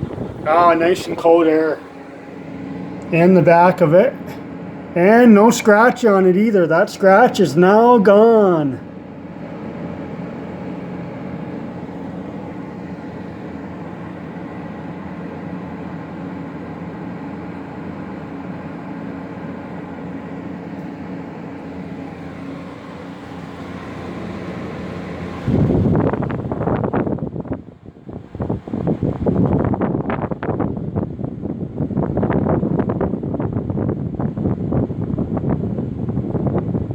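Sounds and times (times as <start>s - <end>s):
window air conditioner running: 0.0s - 36.9s.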